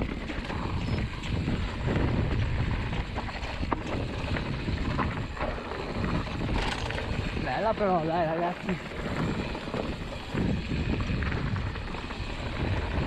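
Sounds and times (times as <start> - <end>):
bike knocks and rattles: 0.0 - 13.0
bike tyres rumbling over dirt: 0.0 - 13.0
wind buffeting microphone: 0.0 - 13.0.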